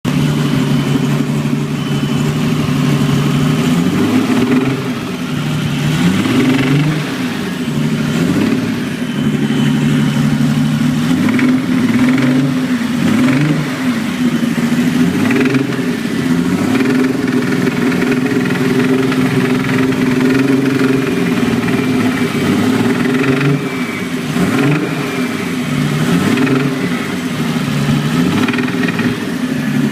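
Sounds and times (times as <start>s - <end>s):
engine revving: 0.1s - 29.9s.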